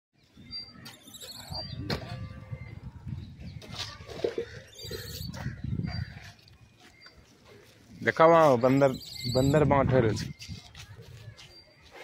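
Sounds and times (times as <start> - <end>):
high chirping calls: 0.2 - 12.0.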